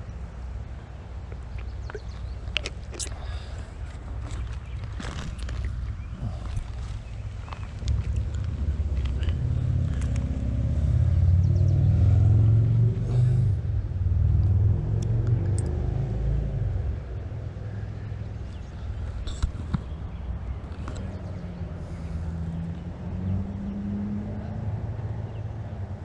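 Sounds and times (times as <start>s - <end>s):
motor vehicle rumble: 0.0s - 26.0s.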